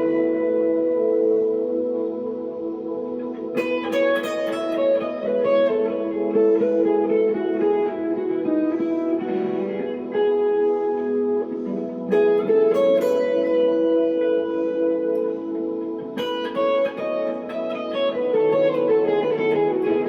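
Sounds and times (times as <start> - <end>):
electric guitar chord ringing: 0.0 - 20.0
picked electric guitar notes: 0.0 - 20.0.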